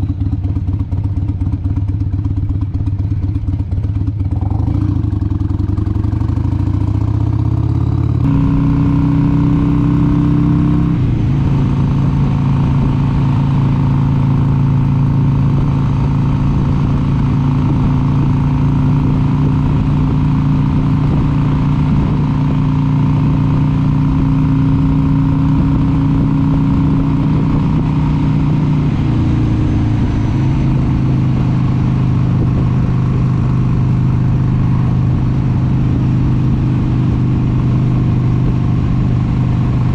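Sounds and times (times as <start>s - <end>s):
motorcycle engine pulling away: 0.0s - 39.9s.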